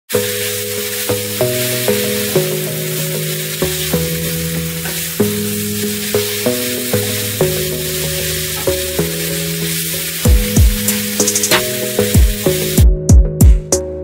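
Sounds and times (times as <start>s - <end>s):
livers sizzling in a skillet: 0.1s - 12.9s
melodic music: 0.1s - 14.0s.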